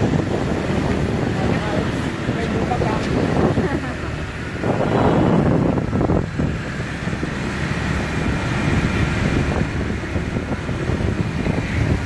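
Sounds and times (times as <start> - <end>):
motor scooter engine rumble: 0.0 - 12.0
wind rushing over microphone: 0.0 - 12.0.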